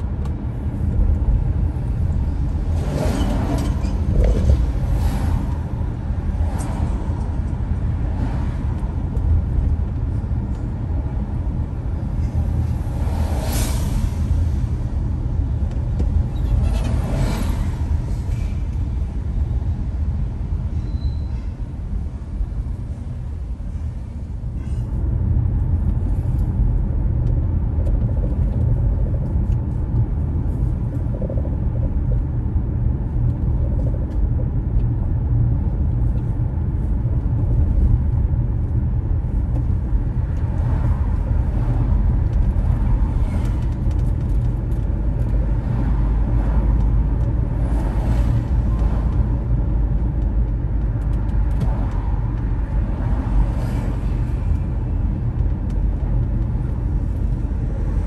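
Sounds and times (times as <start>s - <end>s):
car engine and tyre noise: 0.0s - 58.0s.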